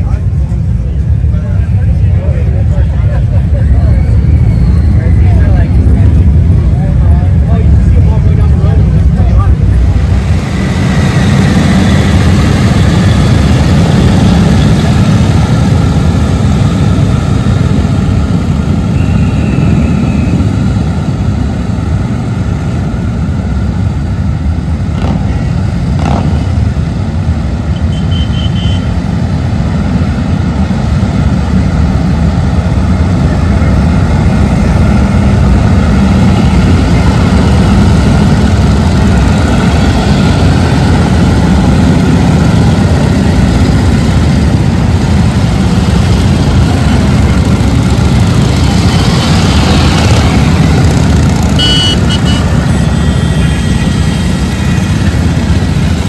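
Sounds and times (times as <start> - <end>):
motorcycle engines rumbling: 0.0 - 56.0.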